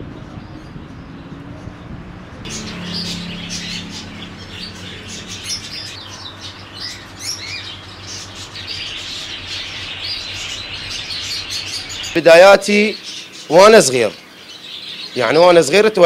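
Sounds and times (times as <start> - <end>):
steady low hum: 0.0 - 13.5
caged birds chirping: 0.0 - 16.0.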